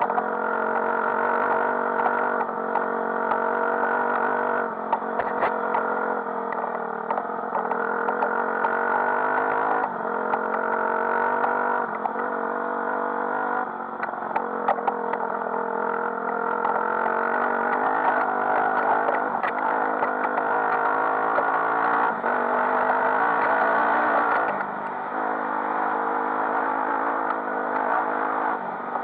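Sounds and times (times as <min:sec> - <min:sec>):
dirt bike engine running: 0:00.0 - 0:29.0.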